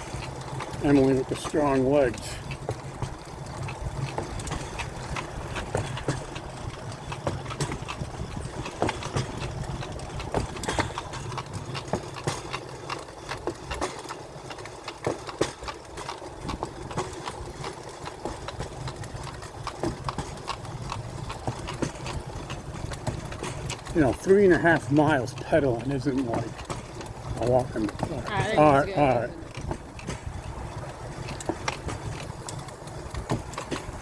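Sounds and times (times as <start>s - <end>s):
clicks and clacks: 0.0s - 34.0s
rail bike wheels rumbling on rails: 0.0s - 34.0s.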